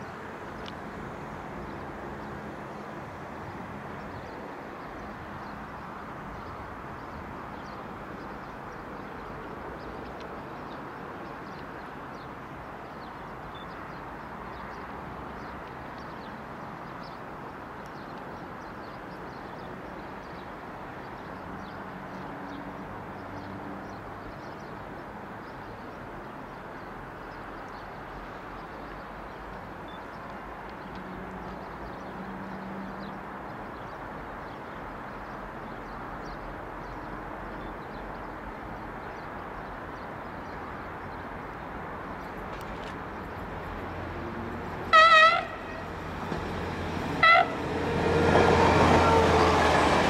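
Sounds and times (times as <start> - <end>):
distant road traffic rumble: 0.0 - 50.0.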